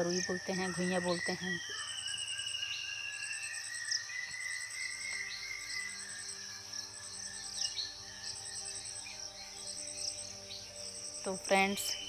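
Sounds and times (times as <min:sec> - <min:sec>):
insect high buzz: 0:00.0 - 0:12.0
insect pulsed high trill: 0:00.0 - 0:12.0.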